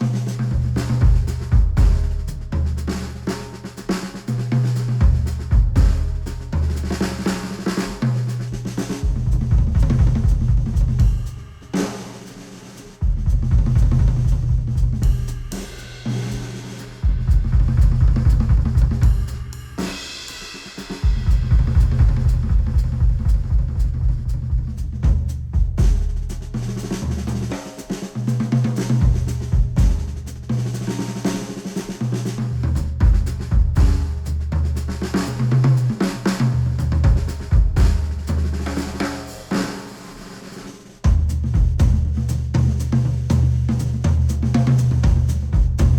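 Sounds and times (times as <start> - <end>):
instrumental music with drums and bass: 0.0 - 45.9.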